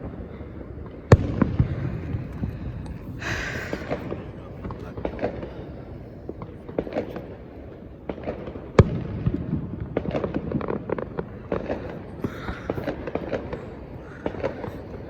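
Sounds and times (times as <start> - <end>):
fireworks popping and crackling: 0.9 - 15.0.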